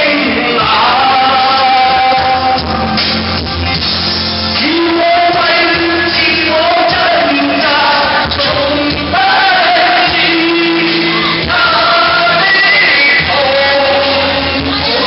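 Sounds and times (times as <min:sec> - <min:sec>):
men singing into microphones: 0:00.0 - 0:03.0, 0:04.6 - 0:15.0
amplified backing music: 0:00.0 - 0:15.0.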